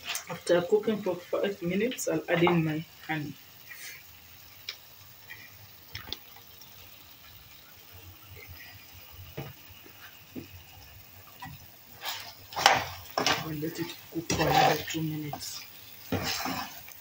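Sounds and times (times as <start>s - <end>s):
sauce bubbling in frying pan: 0.0s - 17.0s.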